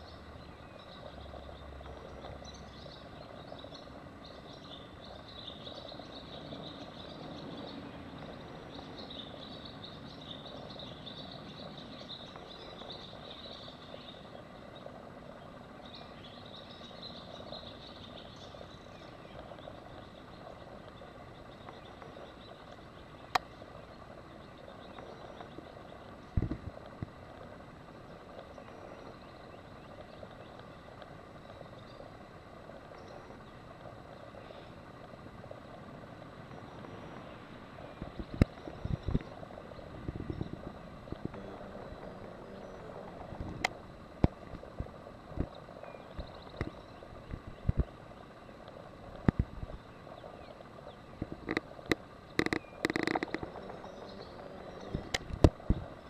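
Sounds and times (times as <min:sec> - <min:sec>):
insects or frogs chirring: 0:00.0 - 0:56.0.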